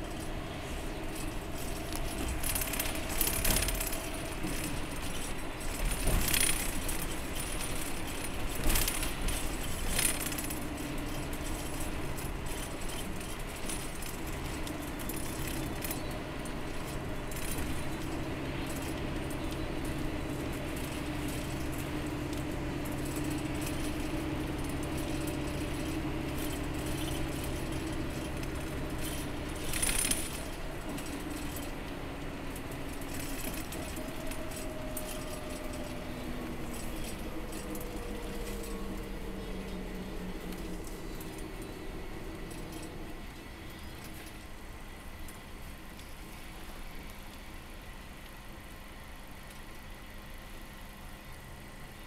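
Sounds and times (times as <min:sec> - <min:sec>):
bus engine and road noise: 0:00.0 - 0:52.0.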